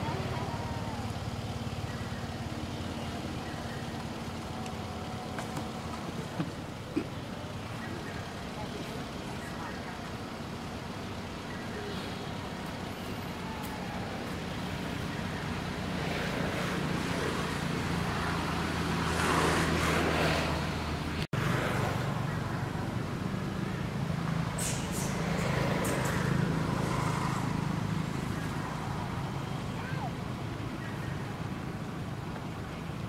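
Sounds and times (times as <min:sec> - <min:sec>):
outdoor background noise: 0:00.0 - 0:33.0
vehicle engine humming: 0:00.0 - 0:33.0.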